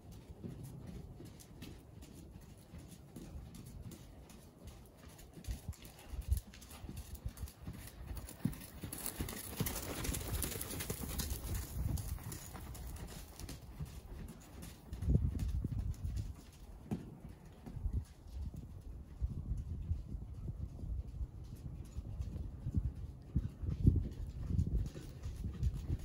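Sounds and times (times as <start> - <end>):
horse hoofbeats on sand: 0.0 - 26.0.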